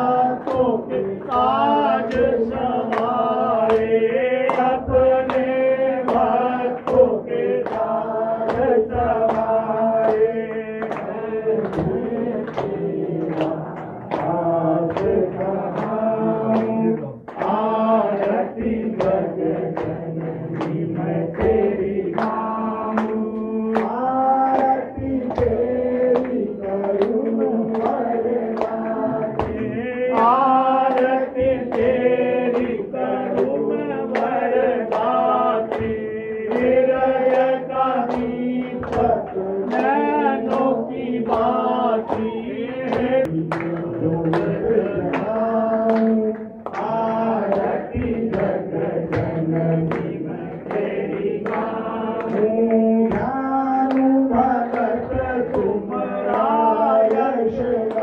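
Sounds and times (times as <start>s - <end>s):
group singing together: 0.0s - 58.0s.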